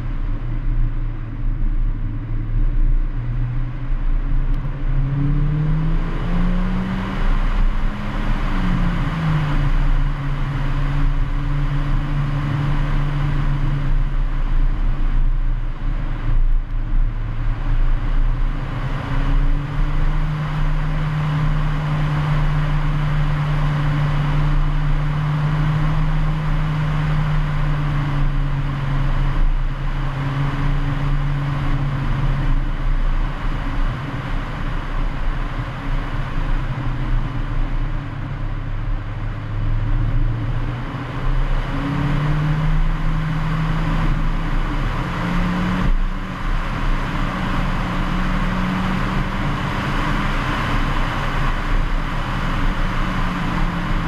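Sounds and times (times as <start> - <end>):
turbocharged car engine: 0.0 - 54.0
tyre rumble on rough road: 6.5 - 54.0.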